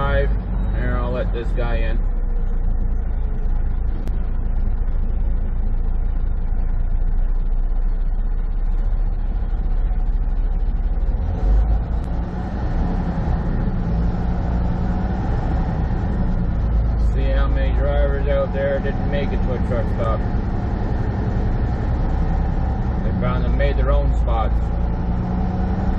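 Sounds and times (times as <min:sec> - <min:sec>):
road noise: 0:00.0 - 0:25.9
truck diesel engine drone: 0:00.0 - 0:25.9.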